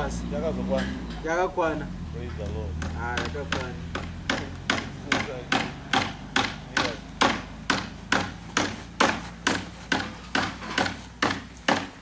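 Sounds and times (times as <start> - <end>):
rhythmic sharp strikes: 2.4 - 12.0.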